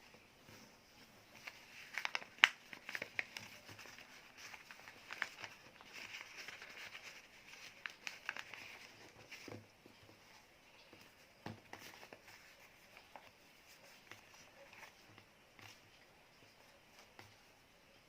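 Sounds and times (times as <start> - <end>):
paper crinkling and folding: 0.0 - 17.6.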